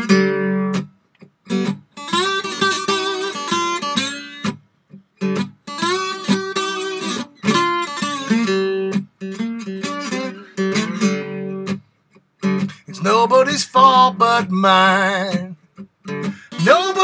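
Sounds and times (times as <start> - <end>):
acoustic blues guitar: 0.0 - 17.0.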